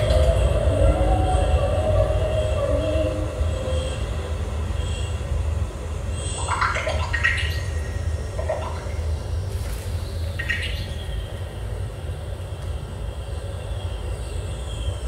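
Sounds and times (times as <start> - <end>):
low rumble with held tones: 0.0 - 15.0.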